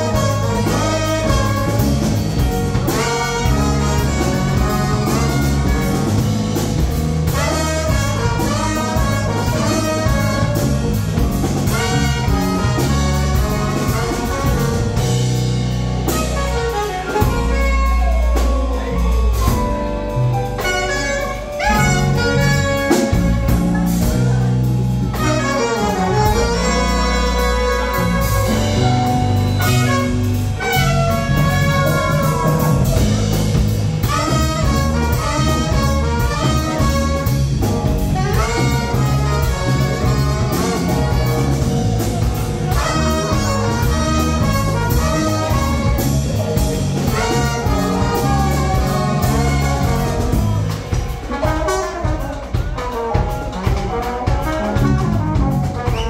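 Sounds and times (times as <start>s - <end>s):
bass: 0.0s - 56.0s
drum kit: 0.0s - 56.0s
horn section playing melody: 0.0s - 56.0s
piano: 0.0s - 56.0s.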